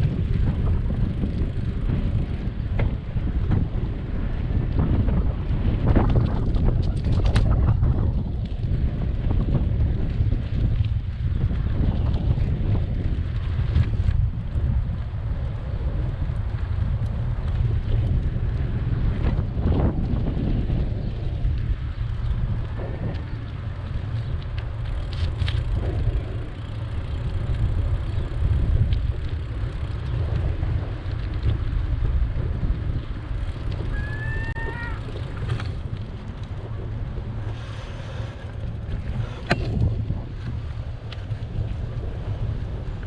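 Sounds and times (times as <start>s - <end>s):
wind rumbling on microphone: 0.0s - 43.0s.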